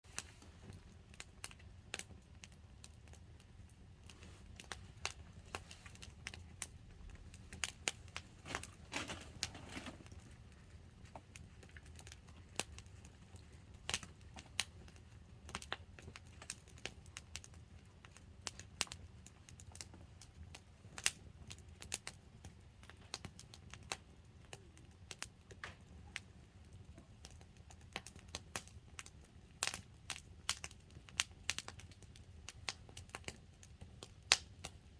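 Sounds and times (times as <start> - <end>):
wood campfire crackling: 0.1 - 34.9.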